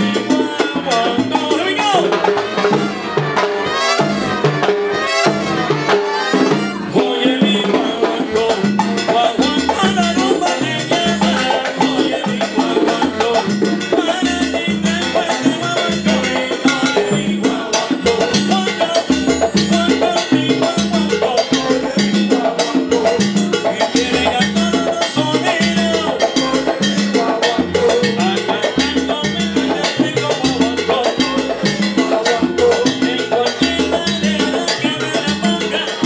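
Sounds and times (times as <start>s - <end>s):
live salsa band: 0.0s - 36.0s
percussion: 0.0s - 36.0s
repeating bass line: 0.0s - 36.0s.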